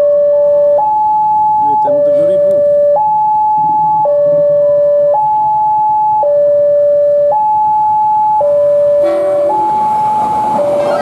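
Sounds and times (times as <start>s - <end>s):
two-tone level crossing alarm: 0.0s - 11.0s.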